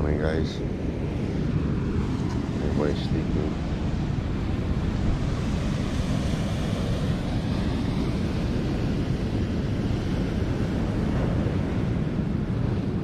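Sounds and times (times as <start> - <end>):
ocean surf breaking: 0.0 - 13.0
wind buffeting the microphone: 0.0 - 13.0.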